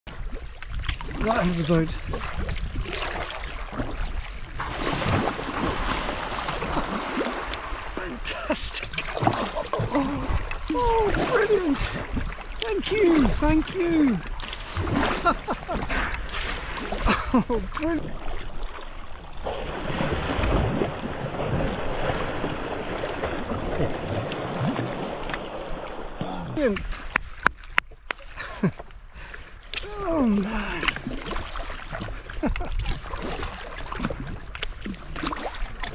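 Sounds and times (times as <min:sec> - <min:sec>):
sea water splashing and rushing: 0:00.1 - 0:35.9.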